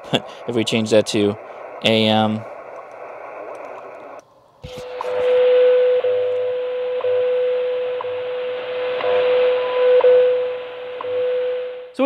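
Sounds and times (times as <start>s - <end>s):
radio hiss: 0.0s - 12.0s
radio static: 0.0s - 12.0s
steady radio tone: 0.0s - 12.0s.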